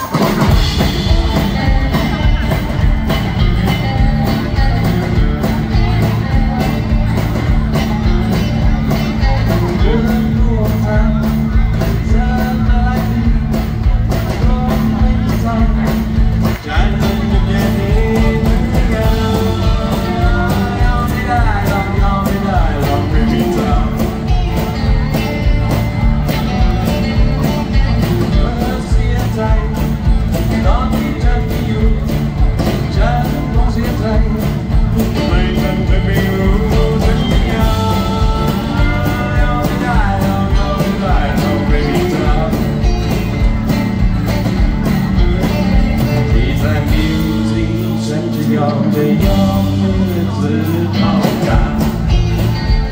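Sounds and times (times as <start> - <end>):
drums steady beat: 0.0 - 52.9
live band playing: 0.0 - 52.9
man singing: 0.0 - 52.9.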